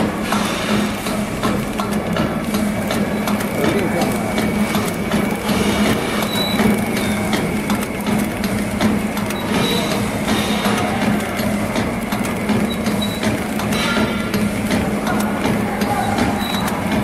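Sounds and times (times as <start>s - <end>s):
packing machine humming: 0.0s - 17.0s.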